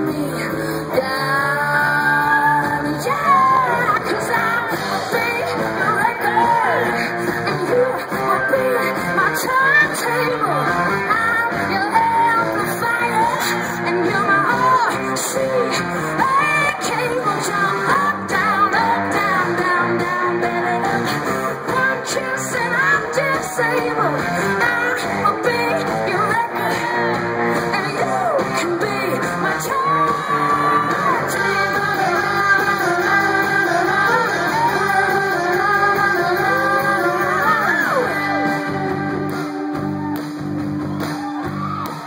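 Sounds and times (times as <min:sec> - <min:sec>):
woman singing: 0:00.0 - 0:40.2
drums: 0:00.0 - 0:42.0
electric guitars: 0:00.0 - 0:42.0.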